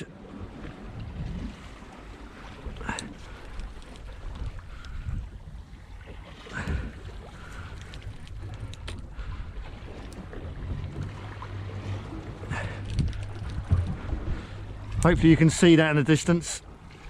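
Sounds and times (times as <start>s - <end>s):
boat low rumble: 0.0s - 17.0s
wind buffeting microphone: 0.5s - 1.8s, 2.6s - 6.0s, 6.6s - 15.9s.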